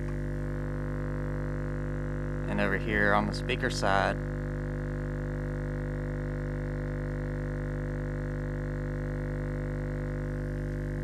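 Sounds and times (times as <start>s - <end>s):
subwoofer low sine tone hum: 0.0s - 11.0s.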